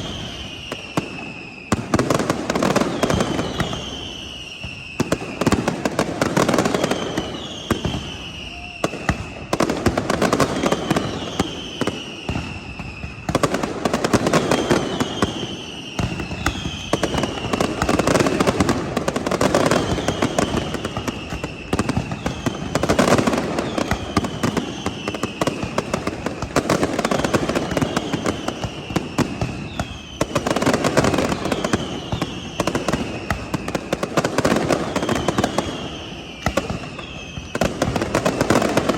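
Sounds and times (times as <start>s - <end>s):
descending firework whistles: 0.0s - 38.9s
fireworks crackling and popping: 0.0s - 38.9s.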